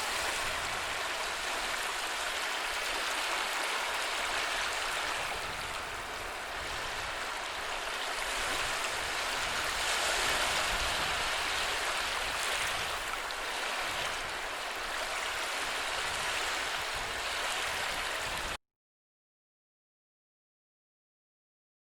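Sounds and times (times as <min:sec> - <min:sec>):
sea waves washing on shore: 0:00.0 - 0:18.6.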